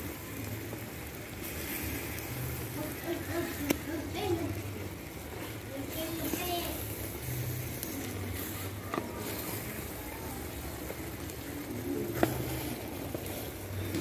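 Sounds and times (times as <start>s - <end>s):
sauce simmering and bubbling: 0.0s - 14.0s.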